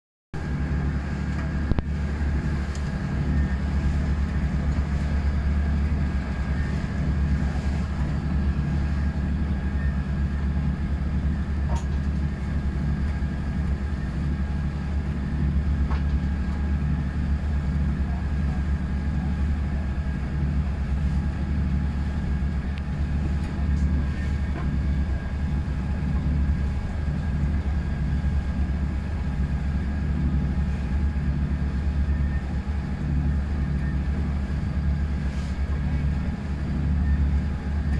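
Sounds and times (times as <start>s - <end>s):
boat engine droning: 0.4s - 37.9s.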